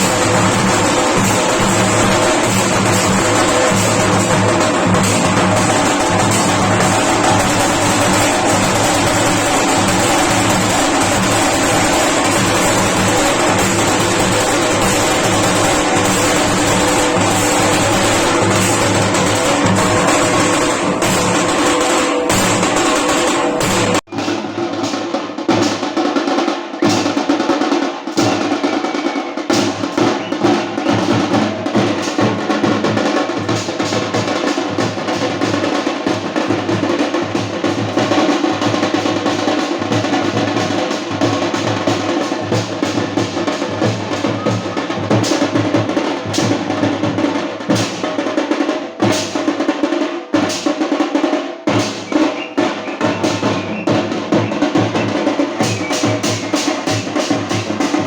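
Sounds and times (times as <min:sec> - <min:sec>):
snare and bass drum beat: 0:00.0 - 0:58.0.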